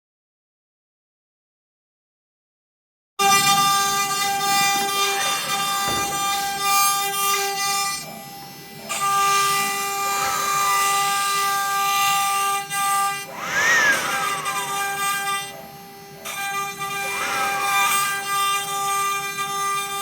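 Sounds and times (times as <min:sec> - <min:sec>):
router spindle whining: 0:03.2 - 0:20.0.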